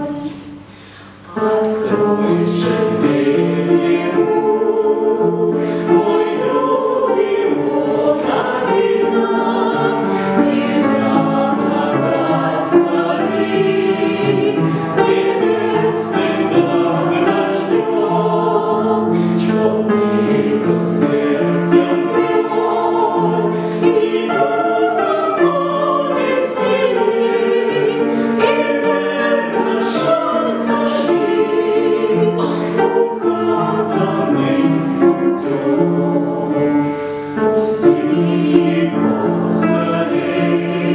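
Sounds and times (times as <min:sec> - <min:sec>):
choir singing chords: 0:00.0 - 0:40.9.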